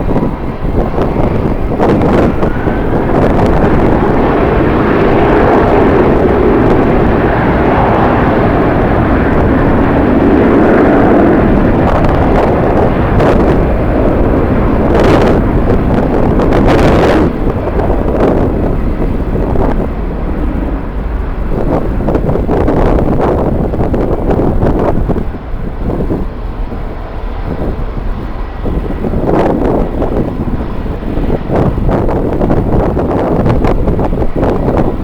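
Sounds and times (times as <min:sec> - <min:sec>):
jet airliner engine noise: 0:00.0 - 0:35.0
wind buffeting microphone: 0:00.0 - 0:35.0.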